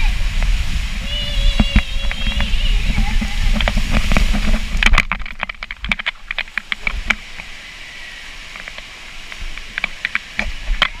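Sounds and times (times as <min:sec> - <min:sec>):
water slaps and splashes: 0:00.0 - 0:07.6, 0:08.4 - 0:11.0
water washing: 0:00.0 - 0:11.0.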